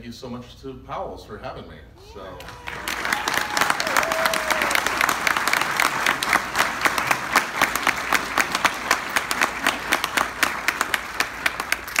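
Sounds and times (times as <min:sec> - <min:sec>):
crowd clapping: 0:02.4 - 0:12.0.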